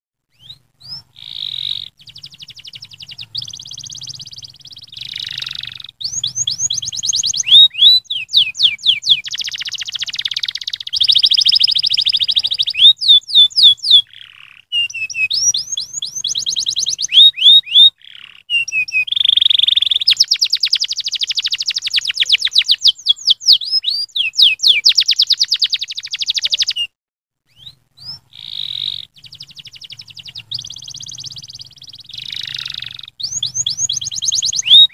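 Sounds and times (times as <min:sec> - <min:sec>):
canary singing trills: 0:00.3 - 0:34.9.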